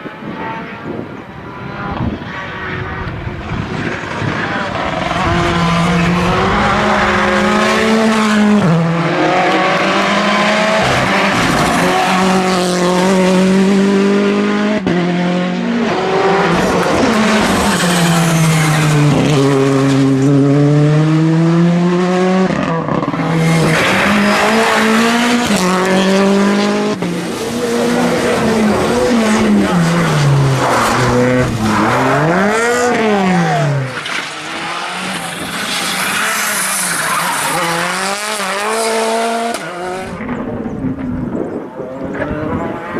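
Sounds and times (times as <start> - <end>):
rally car engines revving: 0.0 - 42.9.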